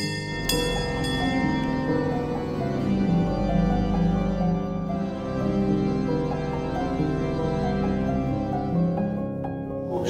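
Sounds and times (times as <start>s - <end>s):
organ playing slow chords: 0.0s - 9.9s.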